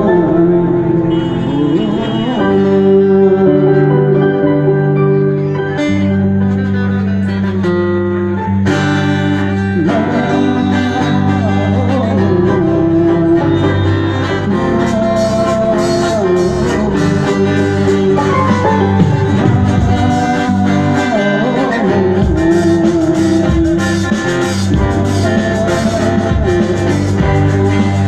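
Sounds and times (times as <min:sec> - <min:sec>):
guitar-led music: 0:00.0 - 0:28.0.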